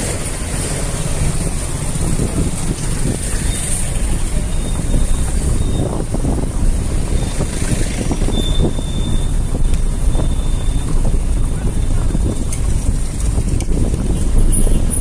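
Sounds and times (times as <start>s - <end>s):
cars on cobblestones: 0.0s - 15.0s
motorcycles on cobblestones: 0.0s - 15.0s
wind rumble on microphone: 0.0s - 15.0s.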